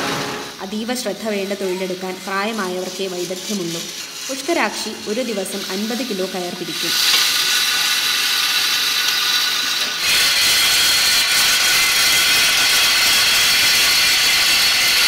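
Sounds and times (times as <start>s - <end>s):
spinning wheels whirring: 0.7s - 15.0s.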